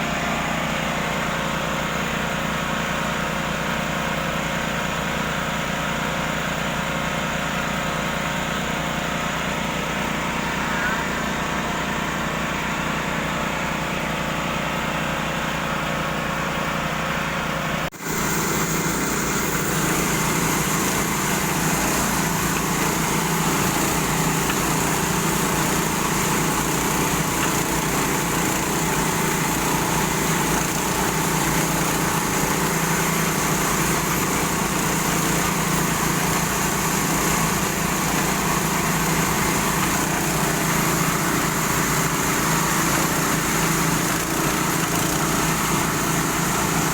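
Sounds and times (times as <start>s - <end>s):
water pump running: 0.0s - 46.9s.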